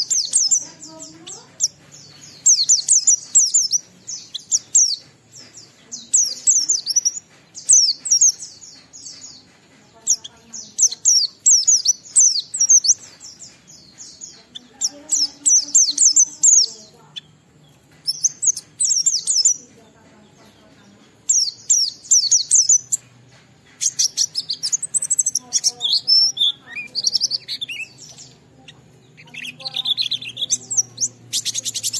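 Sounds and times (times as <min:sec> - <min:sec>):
bird high-pitched twittering song: 0:00.0 - 0:31.9.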